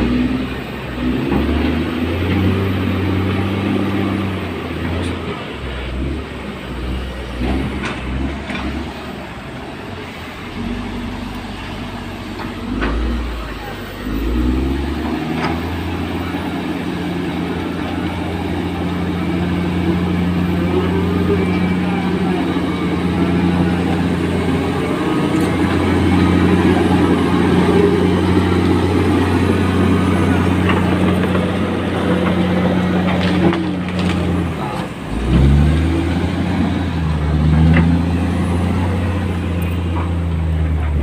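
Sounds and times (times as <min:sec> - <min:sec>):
heavy diesel engine revving: 0:00.0 - 0:41.0.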